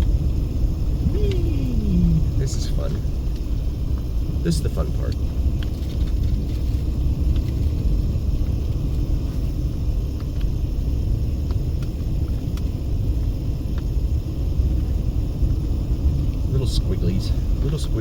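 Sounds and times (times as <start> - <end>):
car tyre and road noise: 0.0 - 18.0.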